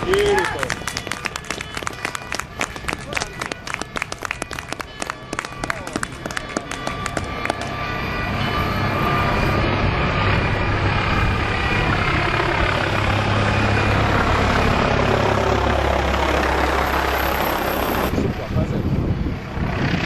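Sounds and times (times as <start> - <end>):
aircraft engine running: 0.0 - 20.0.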